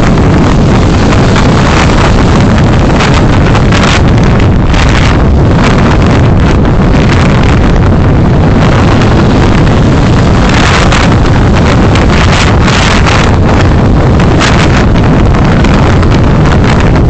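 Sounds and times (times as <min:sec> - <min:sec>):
vehicle road and wind noise: 0:00.0 - 0:17.0.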